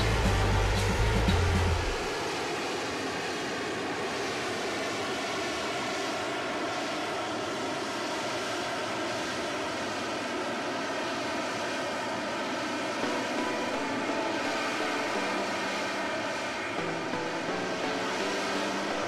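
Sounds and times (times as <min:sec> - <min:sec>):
jet engine noise: 0:00.0 - 0:19.0.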